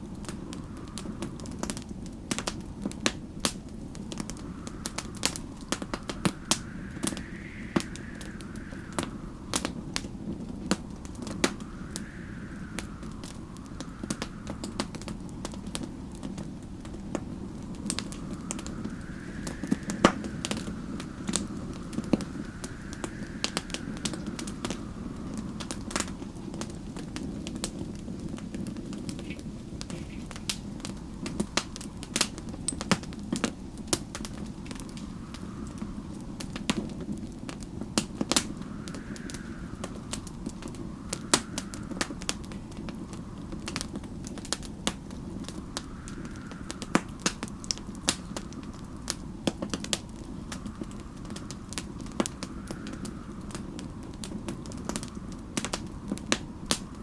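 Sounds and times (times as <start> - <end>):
low rumble: 0.0 - 28.7, 29.5 - 56.9
faint wind: 0.0 - 57.0
wood fire crackling and popping: 0.0 - 57.0.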